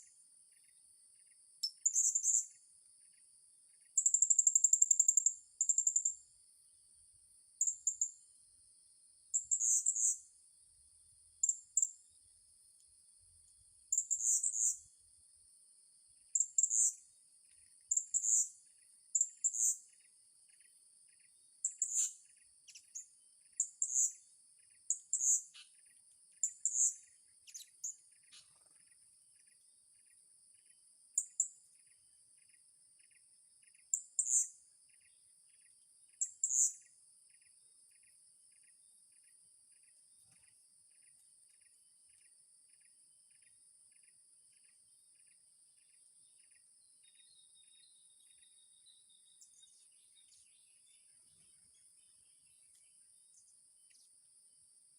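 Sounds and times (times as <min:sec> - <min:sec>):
cricket chirping: 0:00.0 - 0:54.9.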